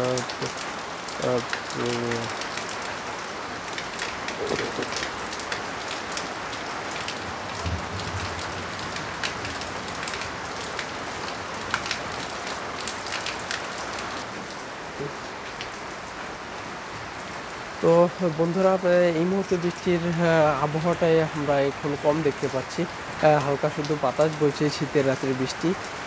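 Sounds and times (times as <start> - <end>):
rain pattering on a tin roof: 0.0 - 26.0
runoff splashing stream: 0.0 - 26.0.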